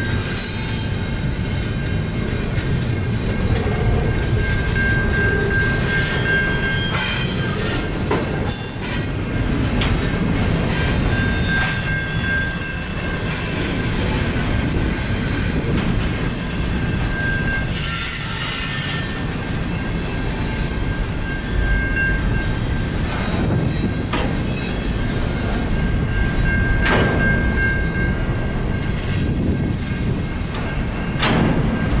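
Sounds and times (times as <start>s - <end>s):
high wheel squeal: 0.0s - 9.2s, 10.7s - 31.2s
train wheels rumbling on rail: 0.0s - 32.0s.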